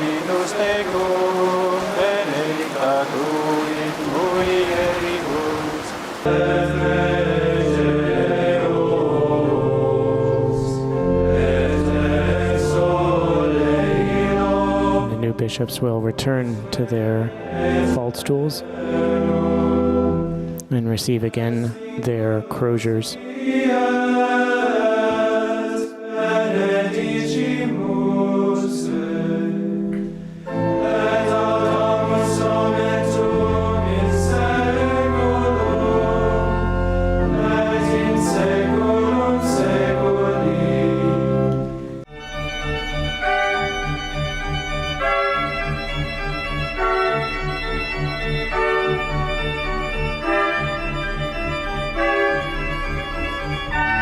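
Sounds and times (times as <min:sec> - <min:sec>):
choir singing: 0:00.0 - 0:20.3, 0:21.4 - 0:42.3, 0:48.4 - 0:54.0
organ playing: 0:00.0 - 0:23.0, 0:26.6 - 0:54.0.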